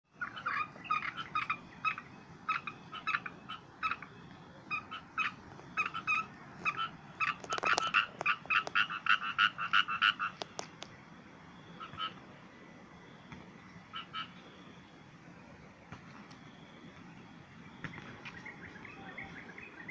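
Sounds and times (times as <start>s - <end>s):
frogs croaking: 0.1s - 19.9s.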